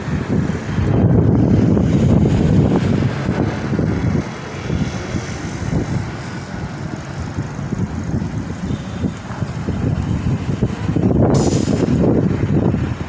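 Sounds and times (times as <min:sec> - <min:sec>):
street traffic passing: 0:00.0 - 0:13.0
wind buffeting the microphone: 0:00.0 - 0:13.0.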